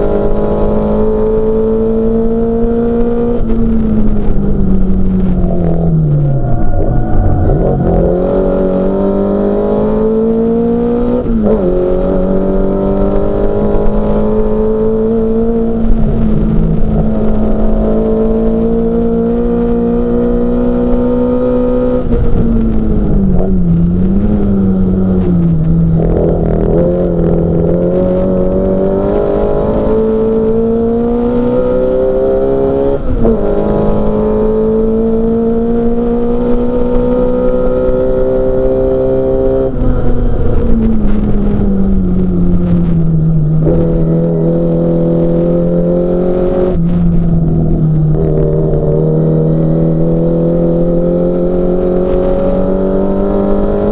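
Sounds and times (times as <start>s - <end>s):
car engine at racing speed: 0.0s - 53.9s.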